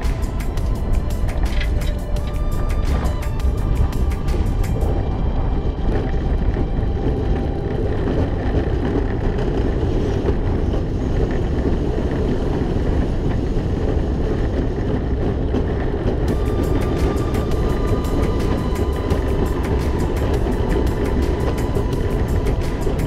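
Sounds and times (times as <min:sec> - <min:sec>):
roller coaster wheels rumbling: 0:00.0 - 0:23.0
wind rushing over microphone: 0:00.0 - 0:23.0.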